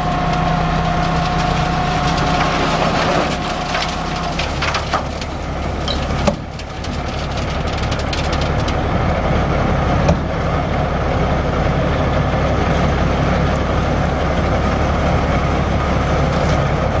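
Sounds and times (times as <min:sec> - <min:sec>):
diesel truck engine running: 0:00.0 - 0:17.0
steel dump bed lowering: 0:00.0 - 0:17.0.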